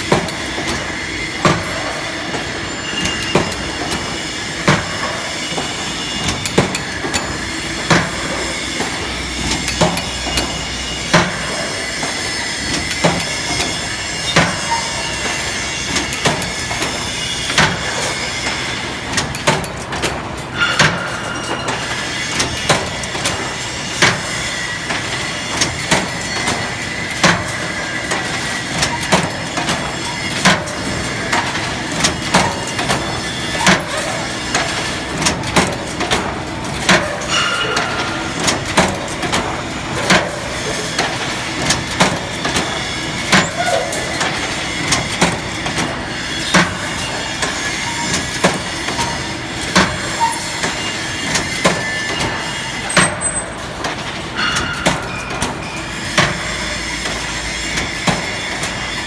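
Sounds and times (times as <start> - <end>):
machine mechanical clatter: 0.0 - 59.0
sharp machine clank: 0.0 - 59.0.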